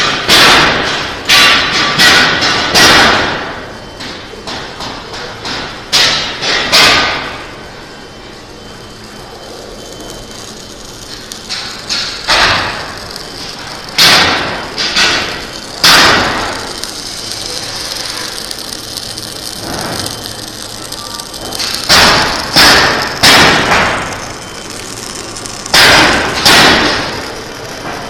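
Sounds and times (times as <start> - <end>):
welding crackling hiss: 0.0 - 28.0.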